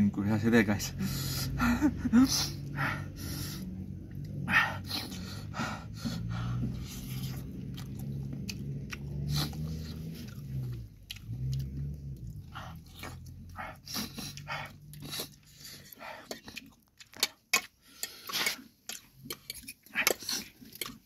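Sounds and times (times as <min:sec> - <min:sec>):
wet chewing and smacking: 0:03.6 - 0:21.0.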